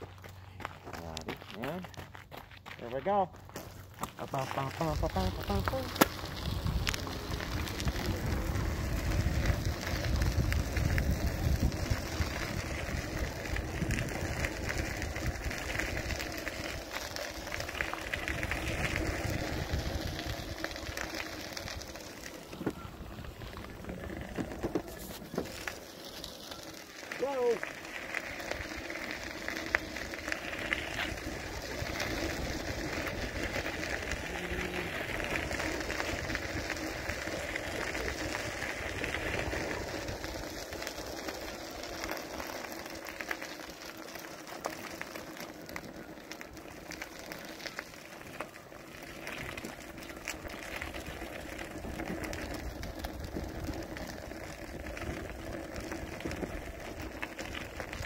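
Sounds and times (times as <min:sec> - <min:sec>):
crackling tyre noise on path: 0:00.0 - 0:58.0.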